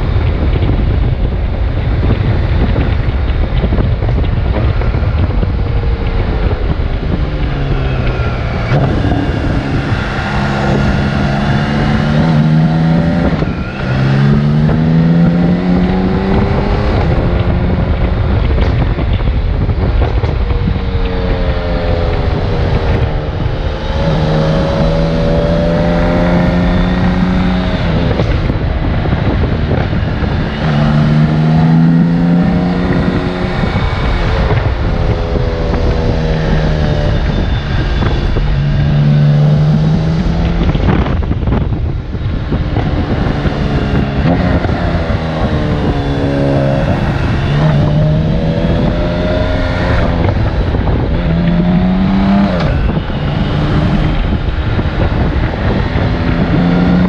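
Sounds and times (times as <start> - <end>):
wind buffeting on microphone: 0.0 - 57.0.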